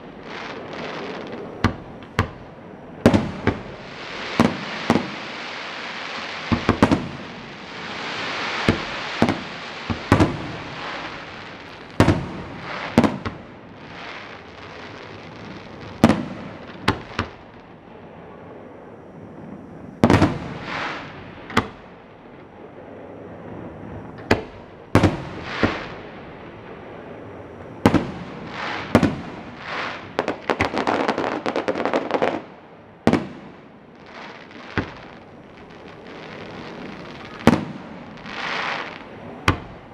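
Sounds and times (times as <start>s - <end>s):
fireworks crackling: 0.0s - 17.8s, 19.4s - 39.9s
fireworks bangs echoing: 0.0s - 18.2s, 19.4s - 39.9s.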